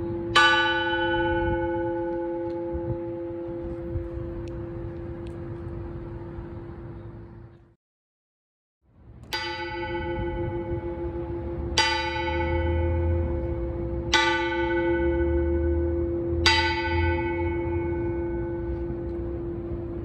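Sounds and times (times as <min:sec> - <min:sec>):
church bell tolling: 0:00.0 - 0:05.8, 0:09.2 - 0:20.0.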